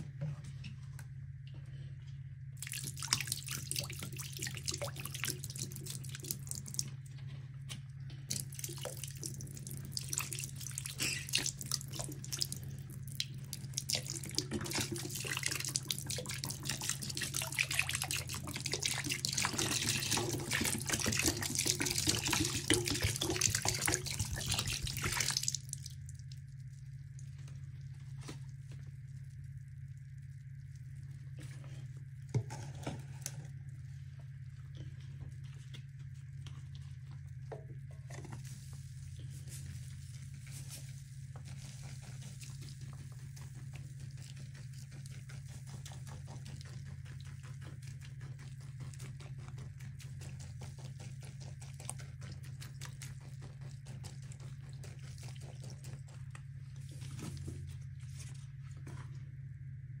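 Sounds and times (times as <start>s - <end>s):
steady low hum: 0.0s - 60.0s
crackling foam in sink: 0.7s - 60.0s.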